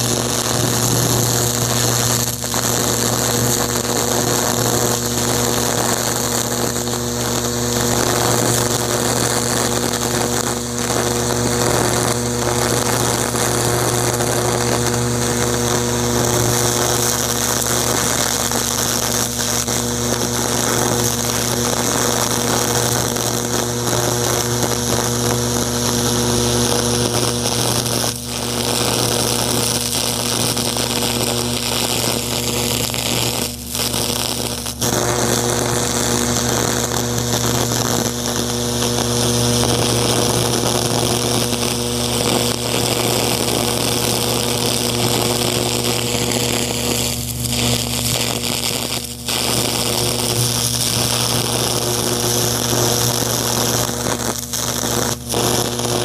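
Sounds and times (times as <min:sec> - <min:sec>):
electric arc buzzing hiss: 0:00.0 - 0:56.0.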